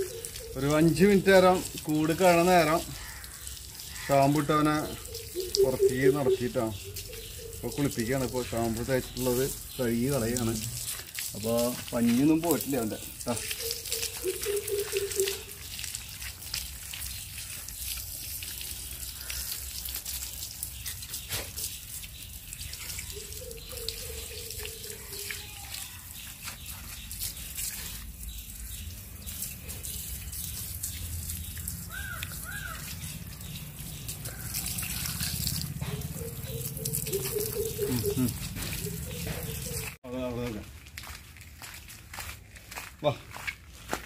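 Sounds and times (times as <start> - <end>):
hose water spraying: 0.0 - 41.4
water splashing on ground: 0.0 - 44.0.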